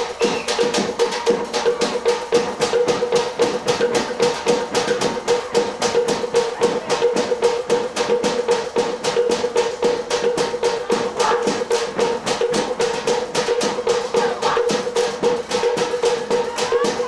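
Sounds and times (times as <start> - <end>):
rapid drumbeat: 0.0 - 17.0.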